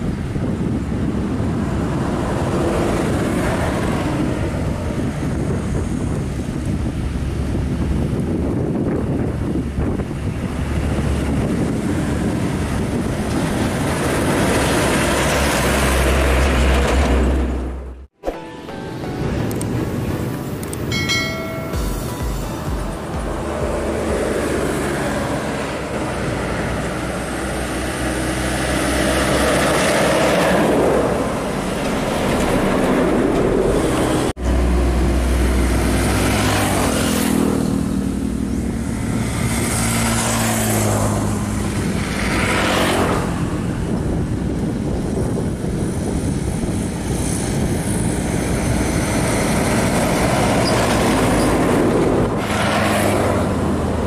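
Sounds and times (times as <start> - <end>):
diesel trucks passing: 0.0 - 54.0.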